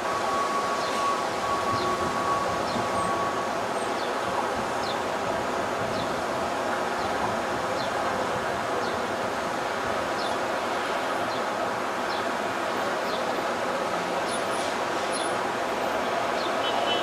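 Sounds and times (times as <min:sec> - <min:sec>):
city traffic: 0:00.0 - 0:17.0.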